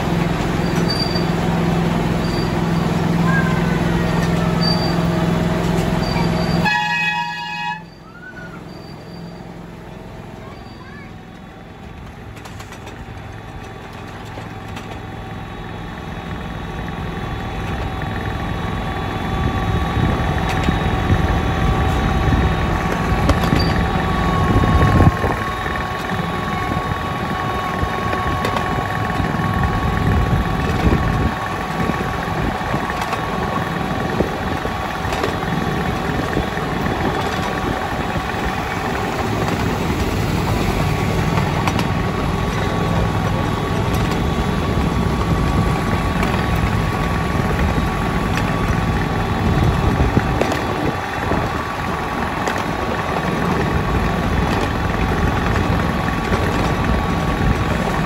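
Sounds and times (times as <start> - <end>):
miniature locomotive engine whine: 0.0 - 58.0.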